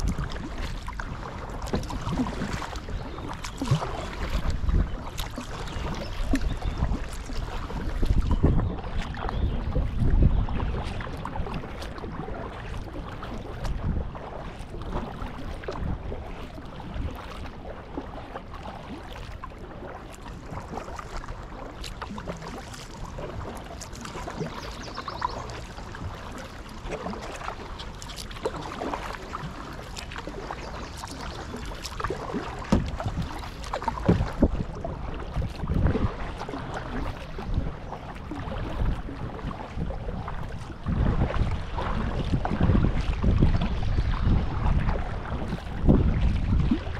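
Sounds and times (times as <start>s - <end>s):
water dripping off paddle: 0.0s - 10.1s, 10.8s - 42.4s
paddle splashing in water: 0.0s - 46.9s.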